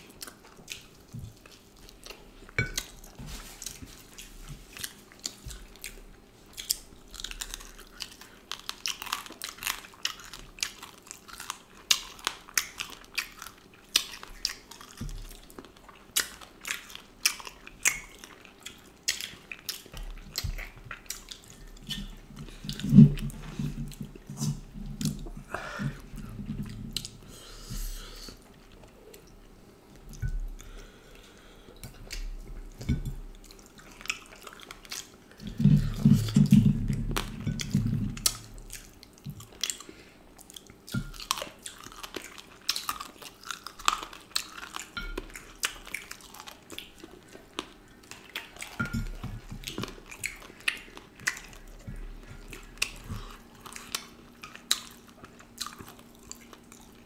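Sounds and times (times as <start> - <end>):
wet chewing: 0.0 - 27.3, 28.1 - 57.0.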